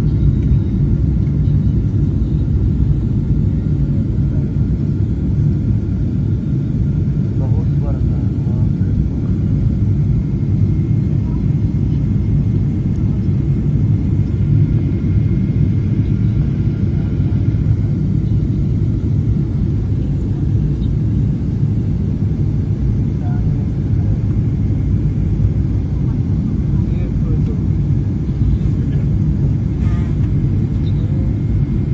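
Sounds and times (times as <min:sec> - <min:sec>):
airliner engines rumbling: 0:00.0 - 0:31.9.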